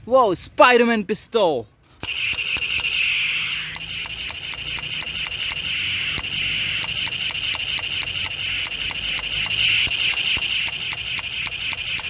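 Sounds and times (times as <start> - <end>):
high-pitched buzz: 2.0 - 12.0
toy pistol clicking: 2.0 - 12.0.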